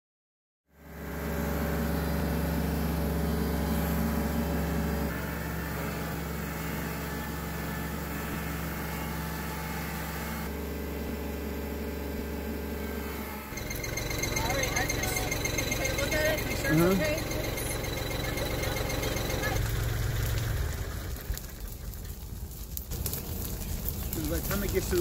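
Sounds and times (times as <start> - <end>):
tractor engine running: 0.8 - 25.0.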